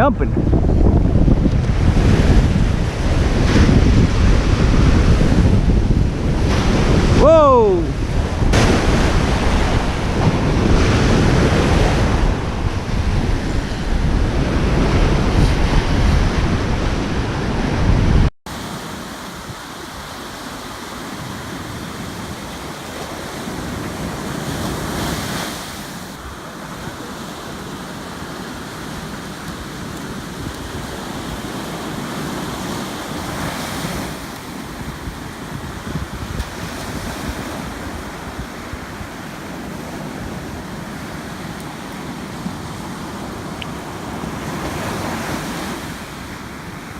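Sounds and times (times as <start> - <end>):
wind buffeting microphone: 0.0 - 20.2, 20.8 - 46.9
ocean surf on a beach: 0.0 - 46.9.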